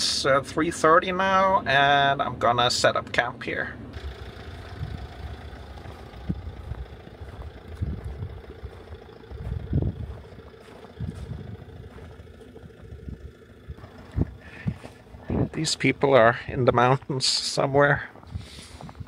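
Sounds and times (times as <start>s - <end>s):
diesel engine idling: 0.0s - 19.0s
uneven low rumbles: 0.0s - 19.0s.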